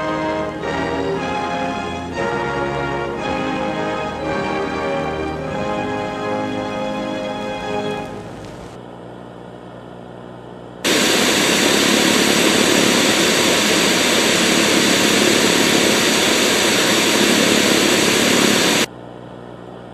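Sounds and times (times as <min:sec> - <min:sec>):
tv static hiss: 0:00.0 - 0:08.8, 0:10.9 - 0:18.9.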